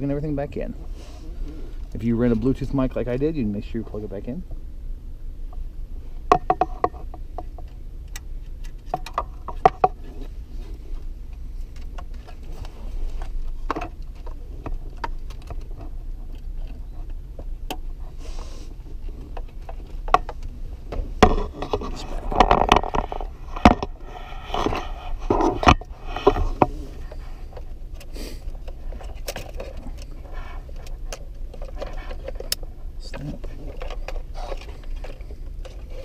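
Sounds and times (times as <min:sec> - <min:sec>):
wires rustling: 0:07.0 - 0:36.0.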